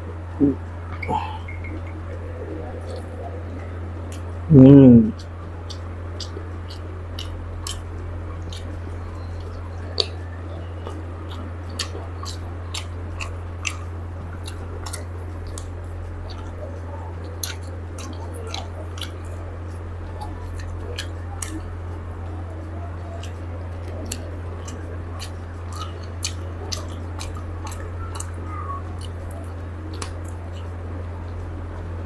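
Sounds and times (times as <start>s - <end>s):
low steady hum: 0.0s - 32.0s
biting and chewing chicken: 1.2s - 32.0s.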